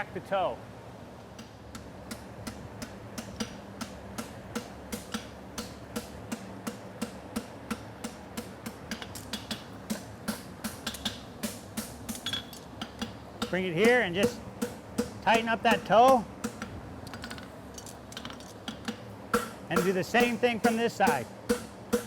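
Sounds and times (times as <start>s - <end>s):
hammer striking steel on anvil: 1.4s - 16.7s, 18.7s - 22.0s.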